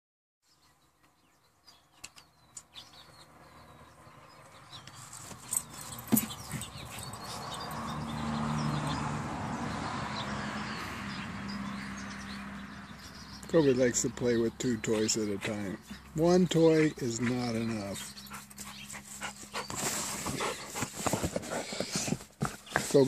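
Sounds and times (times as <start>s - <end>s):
small birds chirping: 0.4s - 23.0s.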